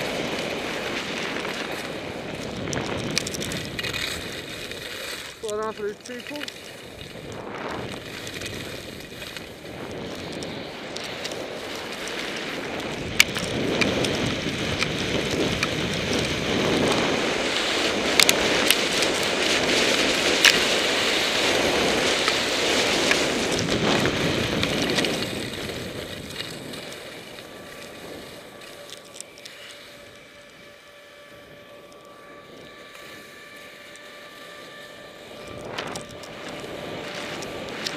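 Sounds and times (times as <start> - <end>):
ski clicks: 0.0 - 37.9
skis scraping over snow: 0.0 - 37.9
wind on microphone: 0.0 - 37.9.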